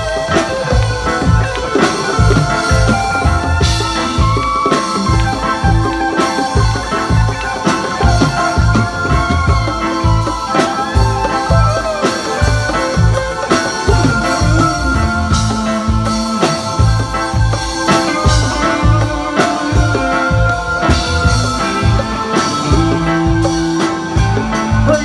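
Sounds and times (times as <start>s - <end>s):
reggae band playing: 0.0s - 25.0s.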